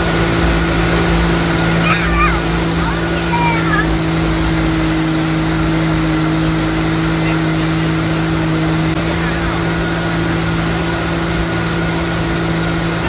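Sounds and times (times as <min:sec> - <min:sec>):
boat engine droning: 0:00.0 - 0:13.0
churning wake water: 0:00.0 - 0:13.0.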